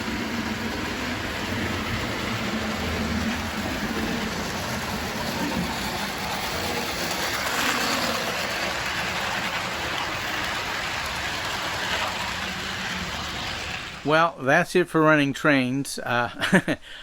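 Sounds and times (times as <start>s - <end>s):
model locomotive motor: 0.0s - 14.1s
model train wheels on rail: 0.0s - 14.3s.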